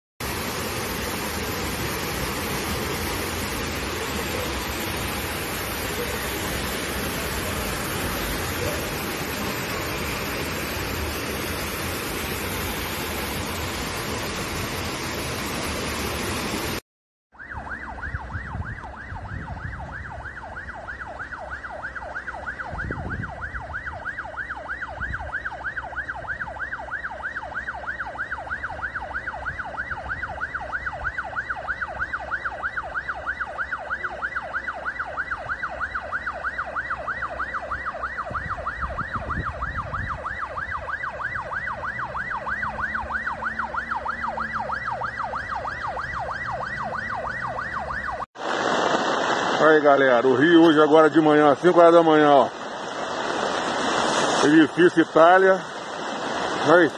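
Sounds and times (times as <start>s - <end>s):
siren in fast yelp: 1.0s - 14.0s, 17.3s - 48.3s, 49.6s - 52.6s, 54.3s - 55.7s, 56.6s - 56.9s.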